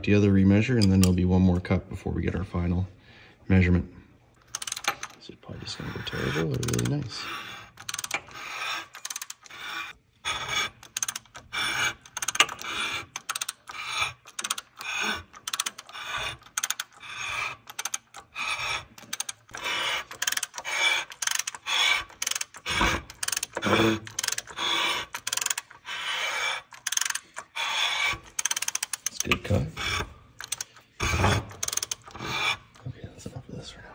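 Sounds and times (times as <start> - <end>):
hand ratchet clicks: 4.4 - 5.2, 5.8 - 32.9
cutter scraping metal: 4.6 - 32.9.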